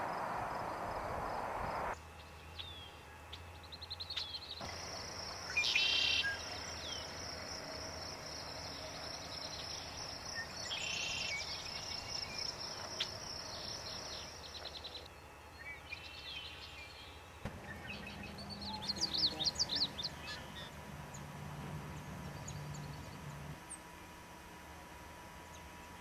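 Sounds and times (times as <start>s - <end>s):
songbirds singing: 2.0s - 23.9s.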